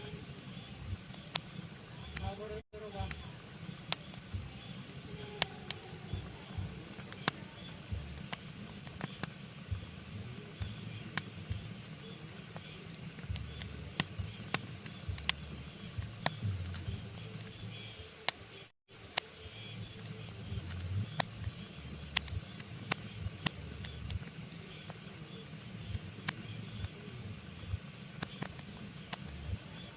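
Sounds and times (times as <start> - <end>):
flames rumbling and hissing: 0.0 - 29.9
logs crackling and popping: 0.1 - 29.9.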